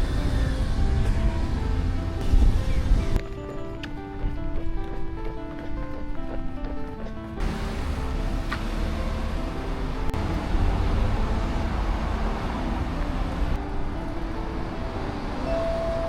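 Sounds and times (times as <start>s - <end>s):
city street traffic rumble: 0.0s - 4.6s, 7.3s - 16.0s
faint melodic background music: 0.0s - 16.0s.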